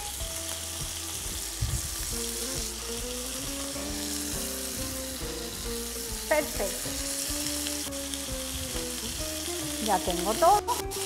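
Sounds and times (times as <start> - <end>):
kidneys sizzling in oil: 0.0 - 11.0.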